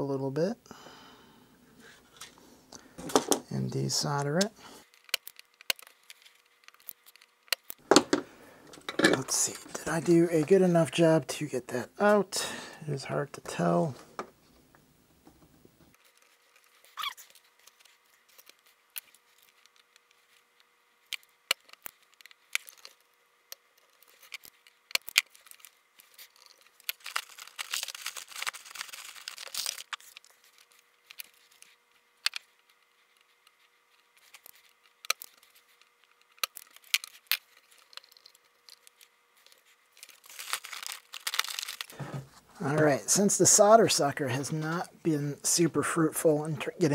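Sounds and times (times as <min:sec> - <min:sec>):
rustling and scraping: 0:01.8 - 0:11.1, 0:15.3 - 0:23.1, 0:23.7 - 0:44.9.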